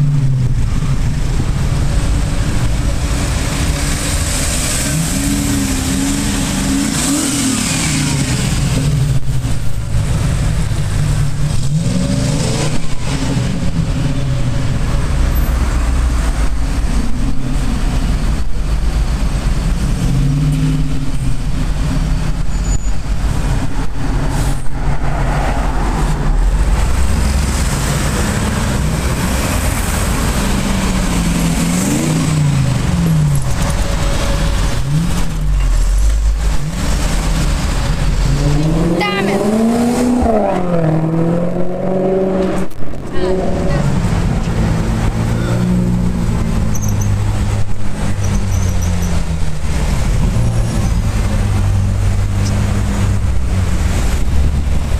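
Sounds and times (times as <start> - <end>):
car engine revving: 0.0 - 22.4, 23.1 - 54.9
low traffic rumble: 0.0 - 54.9.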